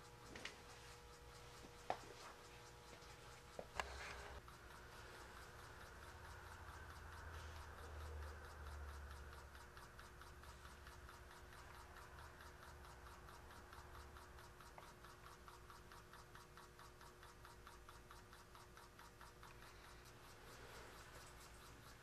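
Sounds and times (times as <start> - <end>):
model steam engine ticking: 0.0 - 22.0.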